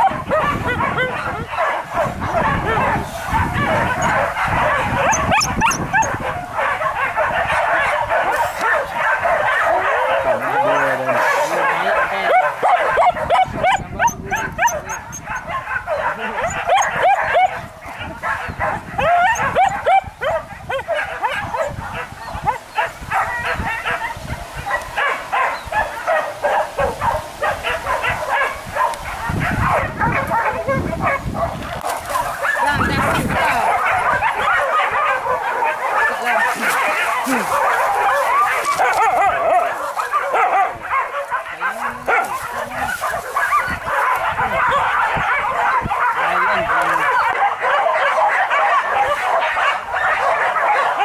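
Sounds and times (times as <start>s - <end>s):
dogs yelping and baying: 0.0s - 51.0s.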